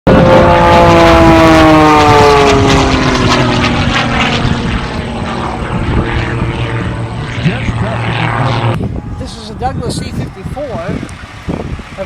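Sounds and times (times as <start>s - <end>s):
propeller airplane flying past: 0.1s - 12.0s.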